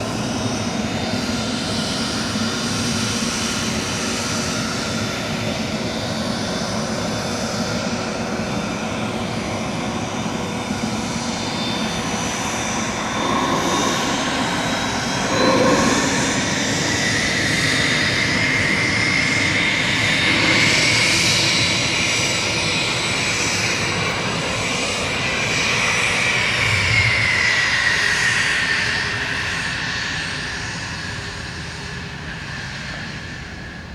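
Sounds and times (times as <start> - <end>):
jet engines whining: 0.0 - 33.9.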